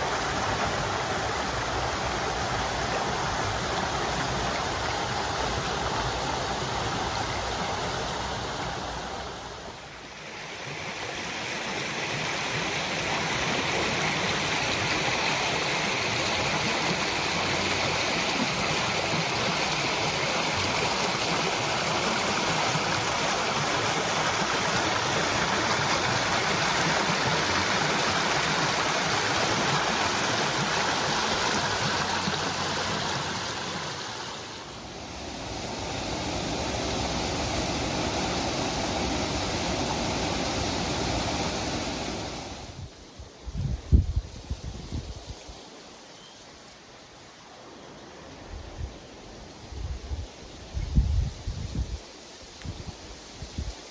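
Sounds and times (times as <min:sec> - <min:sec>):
stream rushing: 0:00.0 - 0:53.9.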